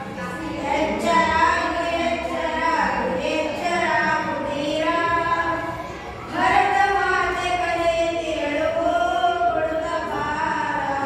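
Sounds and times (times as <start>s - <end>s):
boys singing unaccompanied: 0.0s - 11.0s.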